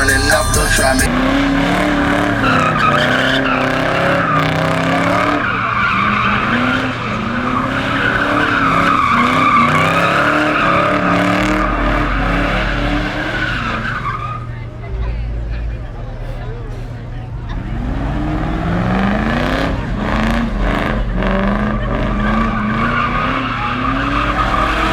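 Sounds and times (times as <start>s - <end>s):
tyres squealing: 0.0s - 14.8s, 16.2s - 24.9s
car engine revving: 0.0s - 24.9s.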